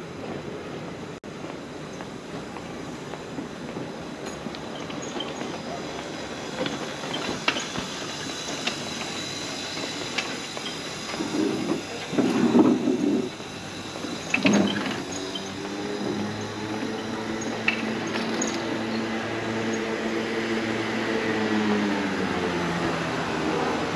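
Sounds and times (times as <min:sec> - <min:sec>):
rolling rattling mechanical noise: 0:00.2 - 0:23.9.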